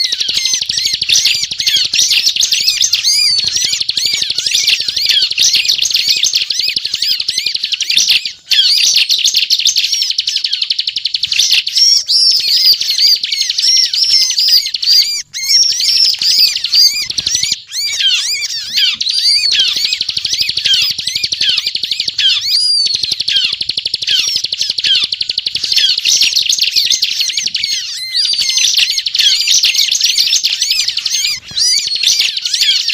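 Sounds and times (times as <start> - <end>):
bird chattering song: 0.0 - 32.9.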